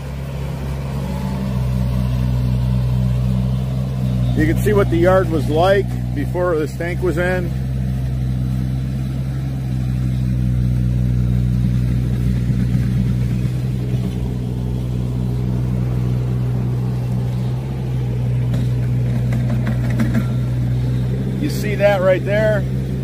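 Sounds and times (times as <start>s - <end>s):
engine running low drone: 0.0s - 23.0s.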